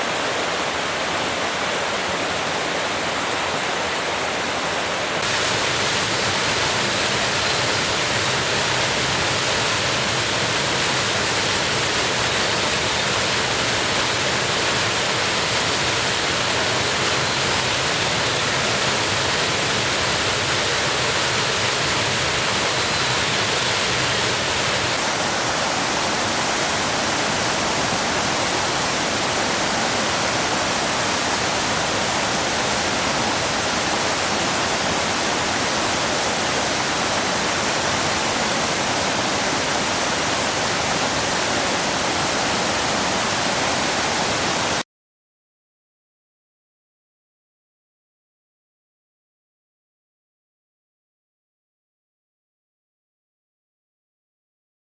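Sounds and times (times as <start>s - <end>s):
waterfall rushing into gorge: 0.0s - 44.8s.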